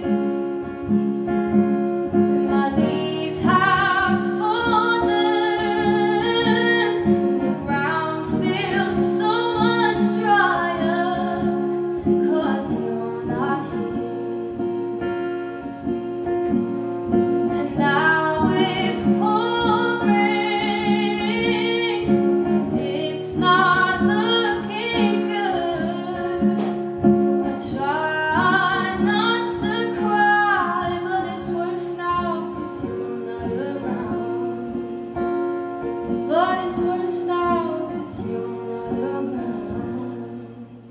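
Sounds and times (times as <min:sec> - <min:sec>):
acoustic guitar: 0:00.0 - 0:40.9
woman singing: 0:00.0 - 0:40.9.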